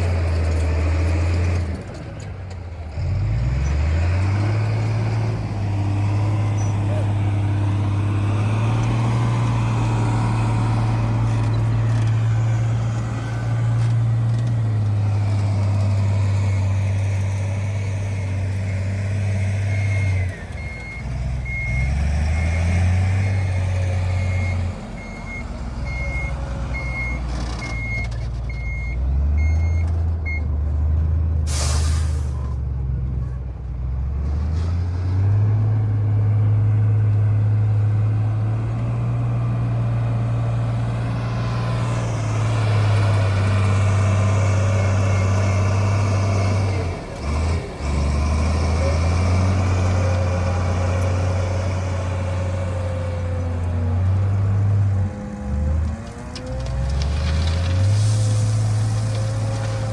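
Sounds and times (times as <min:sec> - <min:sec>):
diesel engine running: 0:00.0 - 0:34.2, 0:35.2 - 0:59.9.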